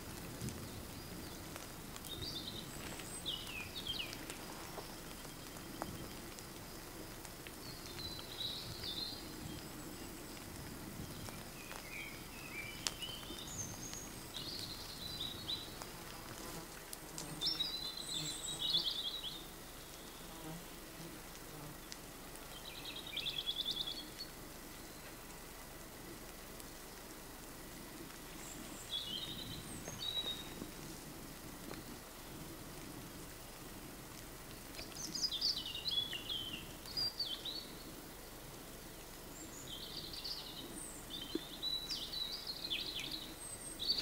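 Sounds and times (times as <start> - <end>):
songbirds singing and trilling: 0.0 - 25.5, 28.0 - 31.0, 34.6 - 44.0
water drips and raindrop ticks: 0.0 - 44.0.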